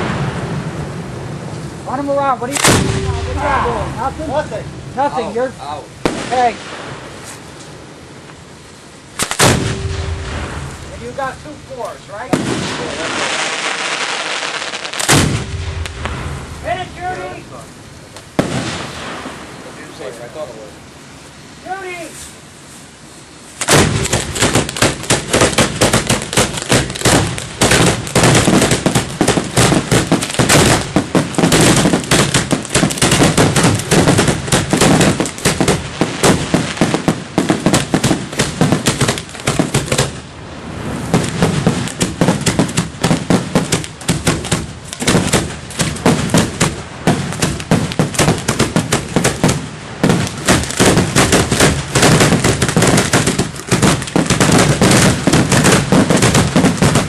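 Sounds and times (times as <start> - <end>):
fireworks bangs: 0.0 - 20.7, 23.5 - 57.0.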